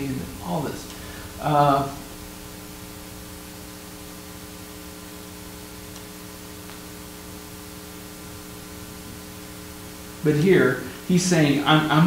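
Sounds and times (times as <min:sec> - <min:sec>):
electrical mains hum: 0:00.0 - 0:12.0
faint hiss: 0:00.0 - 0:12.0.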